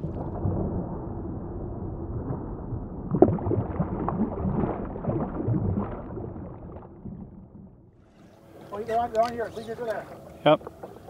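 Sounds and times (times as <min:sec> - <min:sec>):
muffled underwater sloshing: 0:00.0 - 0:11.0.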